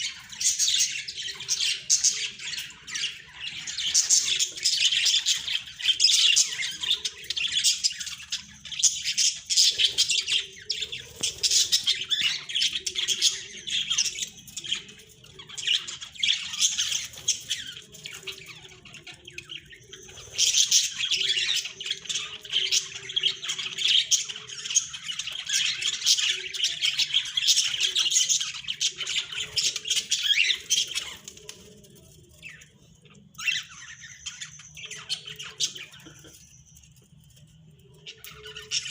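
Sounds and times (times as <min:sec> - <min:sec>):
budgerigars chattering and squawking: 0:00.0 - 0:31.8, 0:32.4 - 0:37.0, 0:37.9 - 0:38.9.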